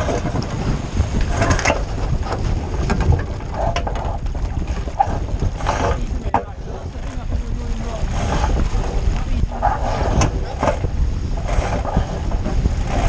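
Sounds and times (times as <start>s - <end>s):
water running along hull: 0.0s - 13.0s
wind buffeting microphone: 0.0s - 13.0s.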